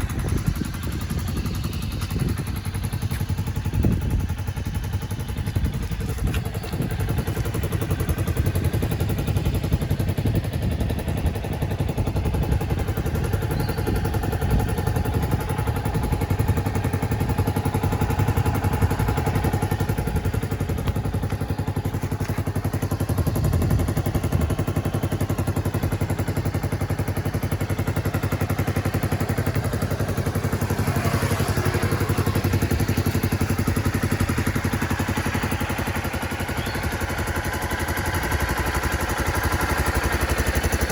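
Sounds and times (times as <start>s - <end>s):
scooter engine running: 0.0s - 40.9s.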